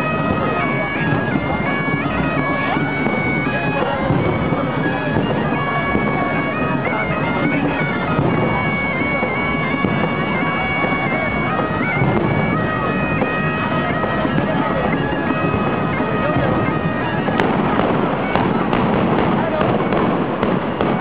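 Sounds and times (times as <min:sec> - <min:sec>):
crowd hubbub: 0:00.0 - 0:21.0
shrill shawms playing melody: 0:00.0 - 0:21.0.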